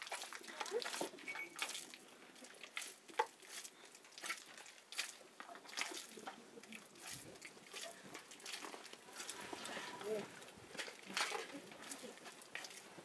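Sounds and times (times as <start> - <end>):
hands squelching dough: 0.0 - 13.0.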